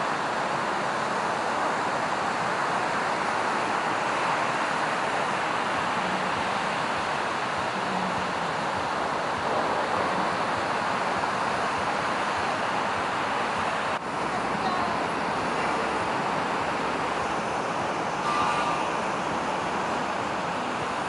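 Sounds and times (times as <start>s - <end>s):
beach ambience: 0.0s - 21.0s.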